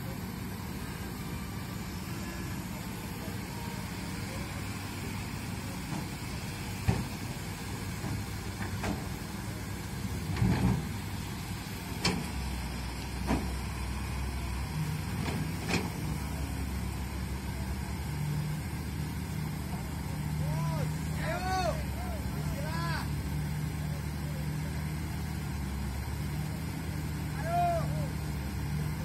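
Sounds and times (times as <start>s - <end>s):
diesel engines running: 0.0s - 29.0s.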